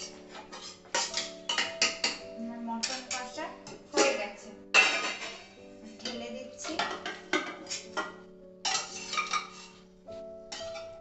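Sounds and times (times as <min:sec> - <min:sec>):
metal pots clinking and scraping: 0:00.0 - 0:11.0.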